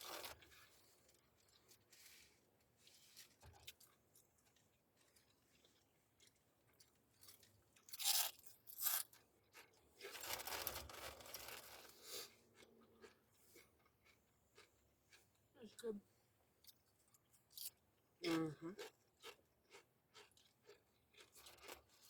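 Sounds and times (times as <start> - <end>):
crunchy food chewing: 0.0 - 15.5, 16.6 - 22.0.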